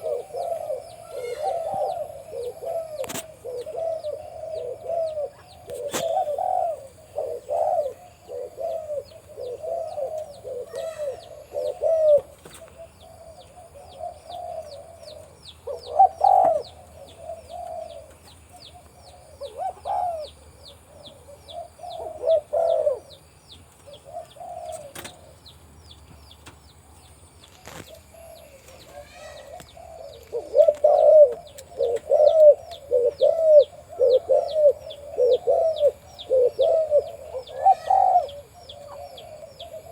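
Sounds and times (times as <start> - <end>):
dove cooing: 0.0 - 25.6, 27.5 - 39.9.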